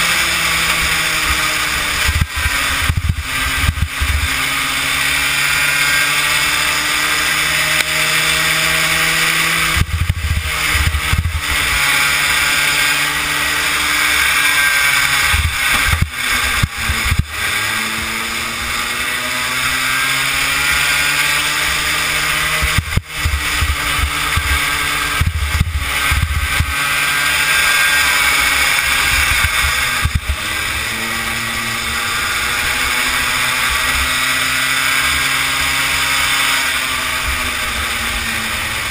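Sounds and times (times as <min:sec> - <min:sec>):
small kart engine revving: 0:00.0 - 0:38.9.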